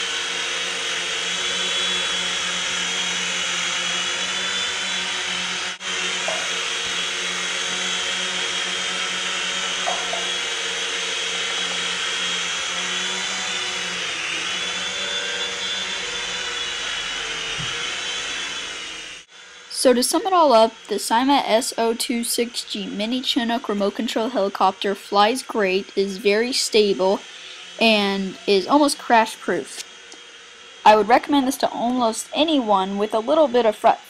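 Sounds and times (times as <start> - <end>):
toy helicopter motors whining: 0.0 - 34.0.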